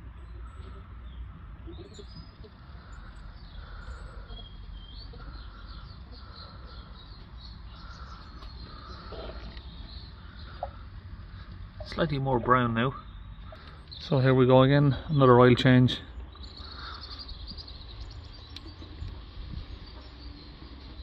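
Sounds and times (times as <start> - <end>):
steady low background rumble: 0.0 - 21.0
wild birds chirping: 0.0 - 21.0.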